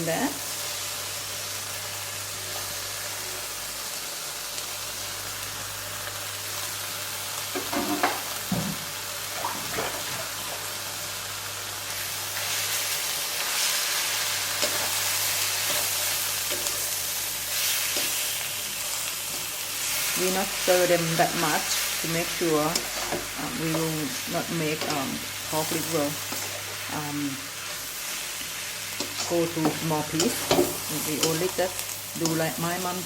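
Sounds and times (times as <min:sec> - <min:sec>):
vegetables sizzling in a pan: 0:00.0 - 0:33.0.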